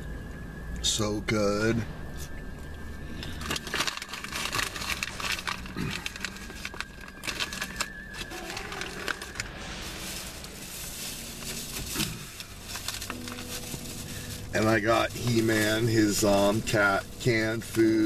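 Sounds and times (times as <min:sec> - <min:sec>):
bag rustling and crinkling: 0:03.2 - 0:18.0.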